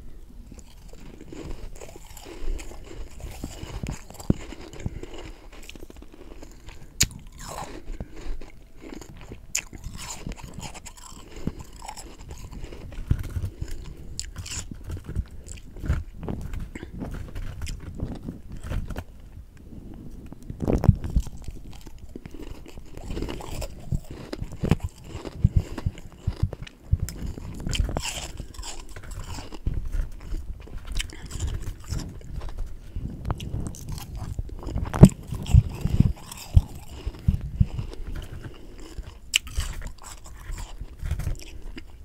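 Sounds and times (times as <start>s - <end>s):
person chewing crunchy frost: 0.0s - 42.0s.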